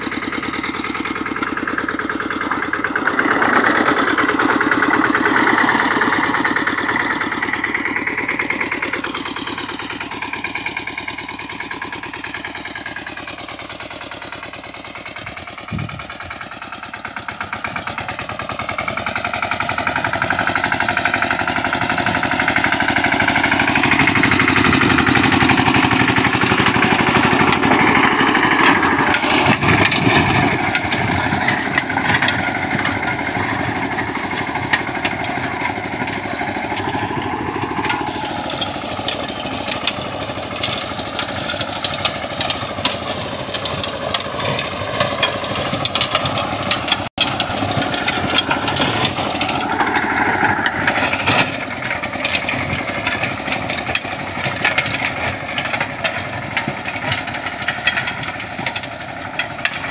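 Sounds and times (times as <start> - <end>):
rotavator tilling dry soil: 0.0 - 59.9
tractor diesel engine running: 0.0 - 59.9.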